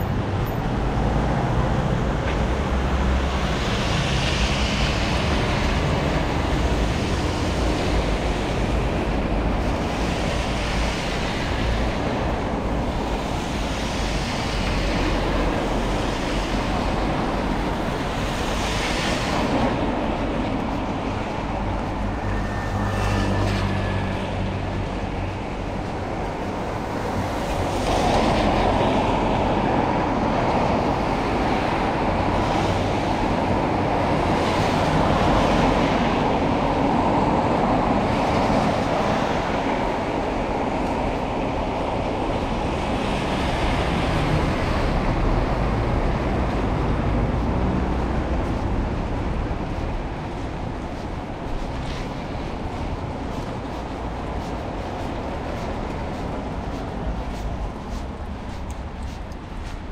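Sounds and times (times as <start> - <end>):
vehicles passing in rain: 0.0 - 59.9.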